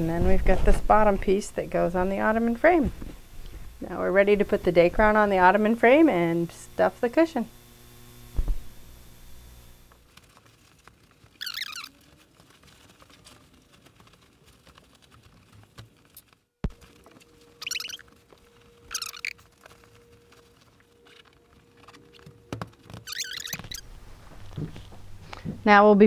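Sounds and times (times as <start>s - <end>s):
faint steady hum: 0.0s - 15.0s, 16.6s - 26.0s.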